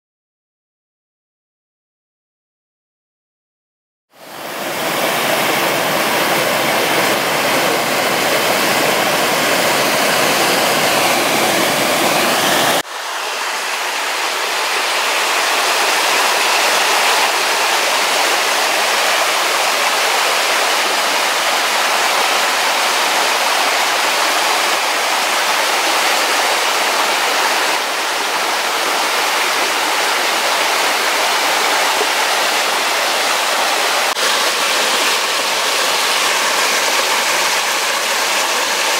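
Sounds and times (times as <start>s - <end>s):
stream rushing over rocks: 4.2s - 38.9s.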